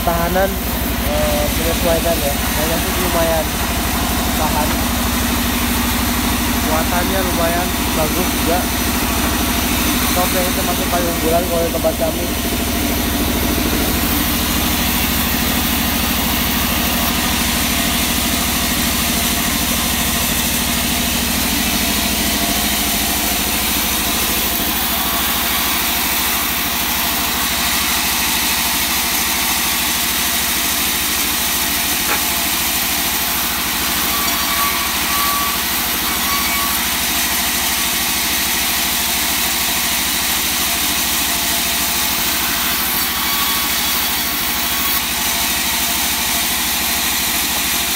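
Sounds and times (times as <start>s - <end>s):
band saw cutting wood: 0.0s - 47.9s.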